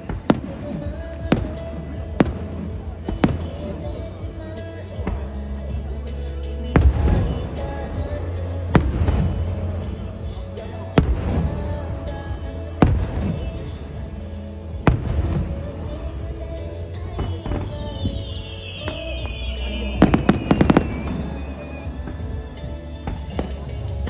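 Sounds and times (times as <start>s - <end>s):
background music: 0.0s - 24.0s
voices: 0.0s - 24.0s.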